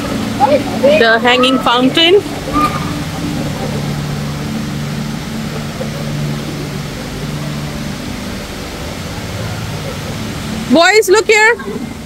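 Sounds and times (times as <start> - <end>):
indoor waterfall rushing: 0.0 - 12.0.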